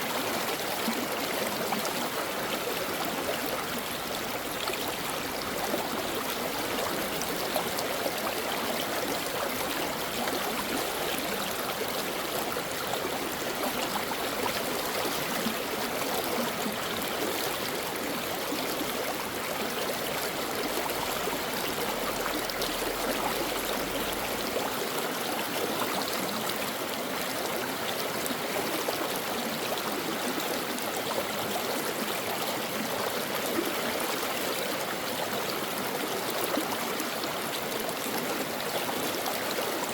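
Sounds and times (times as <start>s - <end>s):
stream water babbling over rocks: 0.0s - 39.9s.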